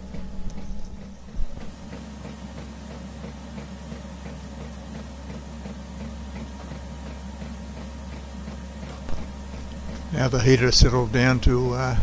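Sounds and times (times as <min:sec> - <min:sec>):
diesel heater humming: 0:00.0 - 0:12.0.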